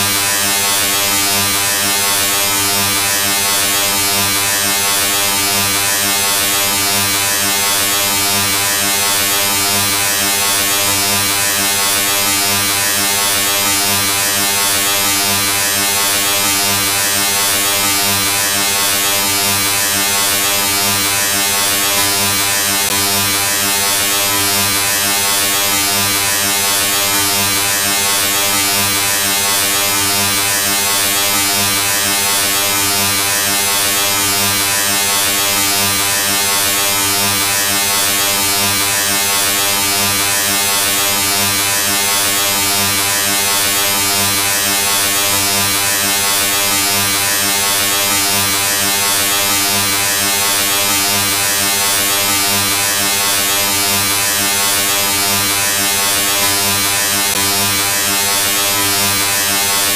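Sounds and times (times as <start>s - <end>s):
electric buzz with hum: 0.0s - 59.9s.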